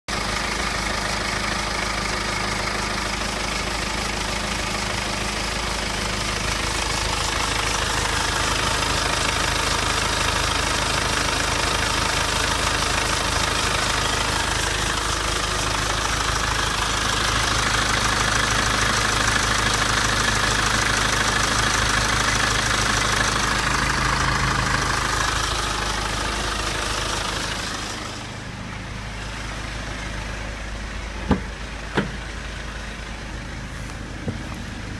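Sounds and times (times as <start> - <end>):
diesel engine idling: 0.1 - 34.9
engine scraping rattle: 0.1 - 34.9.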